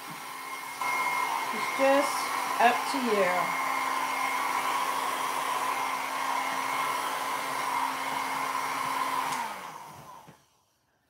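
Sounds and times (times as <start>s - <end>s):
hair dryer running: 0.0s - 10.6s.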